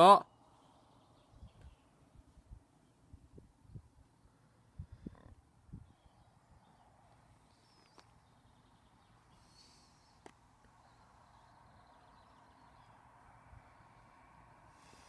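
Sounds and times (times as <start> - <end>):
faint outdoor rumble: 0.0 - 15.0
faint bird chirps: 0.2 - 15.0.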